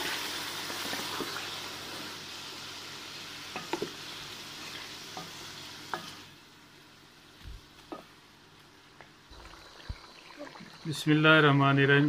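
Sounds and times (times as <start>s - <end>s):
meat sizzling in hot fat: 0.0s - 11.2s.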